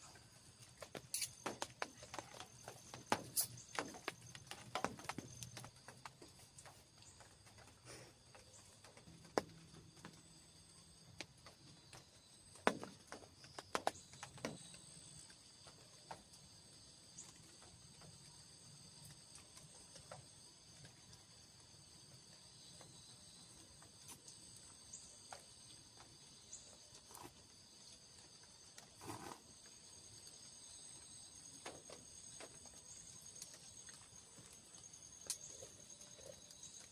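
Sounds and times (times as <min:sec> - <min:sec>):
insect chorus chirring: 0:00.0 - 0:36.9.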